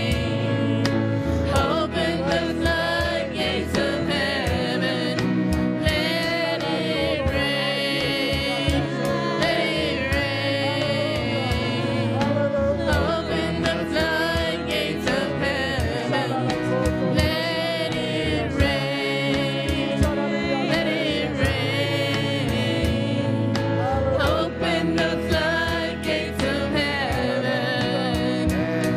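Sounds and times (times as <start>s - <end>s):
instrumental accompaniment with beats: 0.0s - 28.9s
voices singing a slow song: 0.0s - 28.9s.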